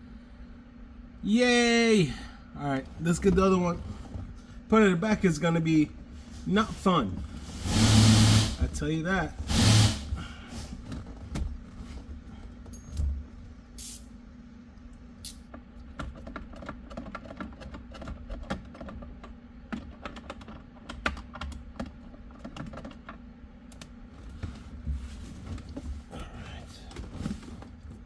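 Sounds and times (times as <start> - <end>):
steady low hum: 0.0 - 16.4, 20.4 - 28.0.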